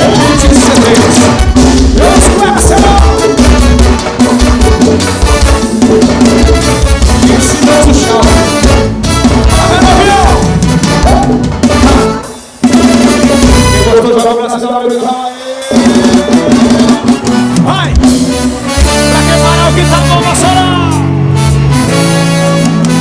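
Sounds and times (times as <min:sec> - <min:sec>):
band playing dance music: 0:00.0 - 0:23.0
drum kit and bass beat: 0:00.0 - 0:23.0.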